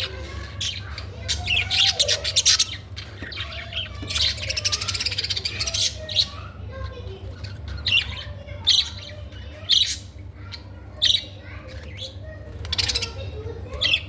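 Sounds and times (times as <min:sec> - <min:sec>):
budgerigars chirping: 0:00.0 - 0:14.0.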